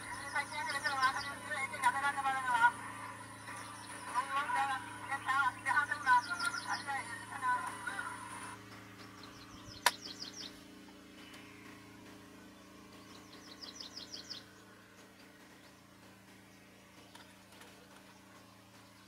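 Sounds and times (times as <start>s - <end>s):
bird chirping: 0.0s - 2.0s, 3.2s - 8.0s, 8.6s - 19.0s
faint low hum: 0.0s - 19.0s.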